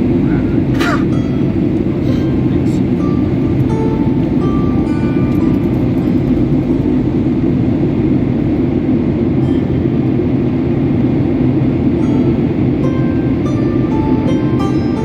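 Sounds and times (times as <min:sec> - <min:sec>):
low rumble: 0:01.1 - 0:15.0.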